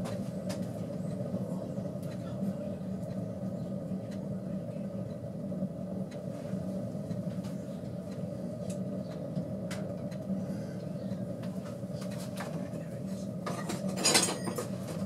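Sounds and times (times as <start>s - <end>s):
stove burning with low rumble: 0.0s - 15.0s.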